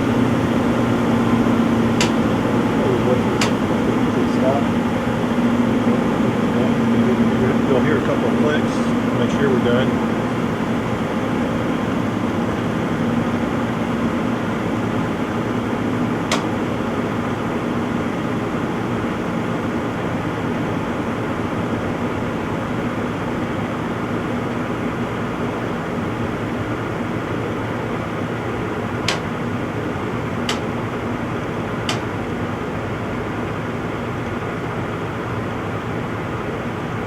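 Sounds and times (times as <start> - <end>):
washing machine spin whirring: 0.0 - 37.0.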